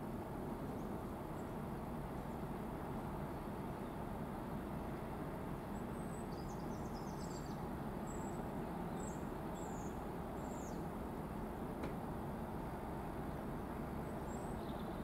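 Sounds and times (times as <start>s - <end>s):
distant diesel locomotive drone: 0.0s - 15.0s.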